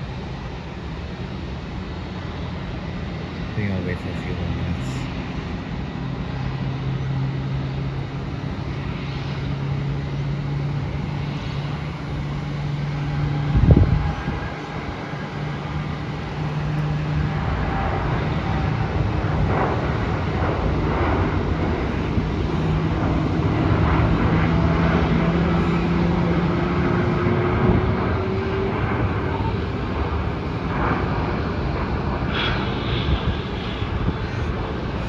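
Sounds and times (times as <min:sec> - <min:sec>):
jet engines humming: 0:00.0 - 0:35.0.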